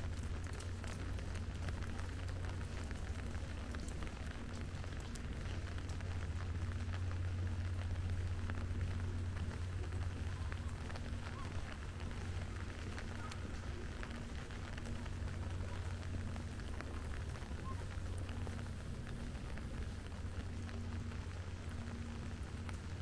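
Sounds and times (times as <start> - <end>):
constant low hum: 0.0 - 23.0
sharp drips of drops landing: 0.0 - 23.0
steady rain falling: 0.0 - 23.0.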